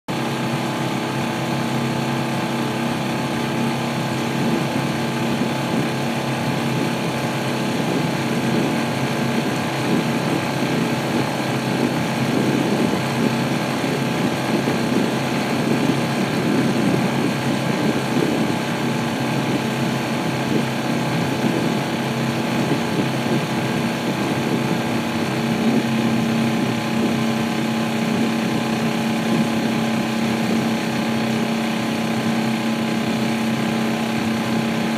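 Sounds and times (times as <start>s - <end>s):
small boat motor running: 0.1s - 34.9s.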